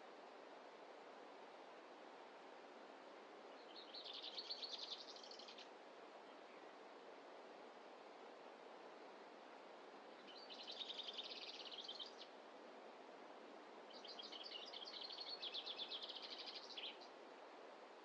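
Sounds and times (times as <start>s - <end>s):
faint forest ambience hiss: 0.0s - 18.0s.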